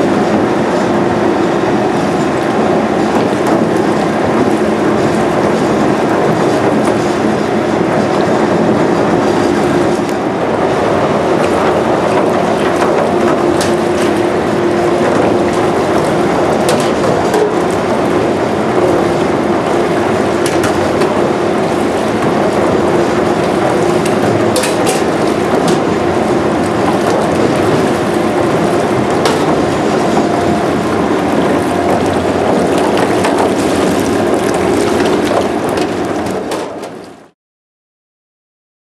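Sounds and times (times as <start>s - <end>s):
sink pump churning water: 0.0s - 37.3s
steady pump hum: 0.0s - 37.4s.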